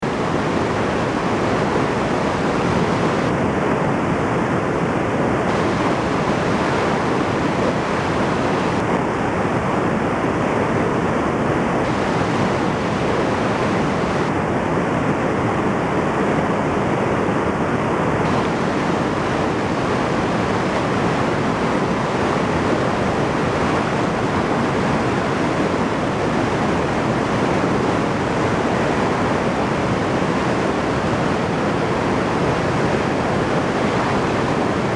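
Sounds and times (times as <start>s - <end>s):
flooded river rushing over weir: 0.0s - 34.9s.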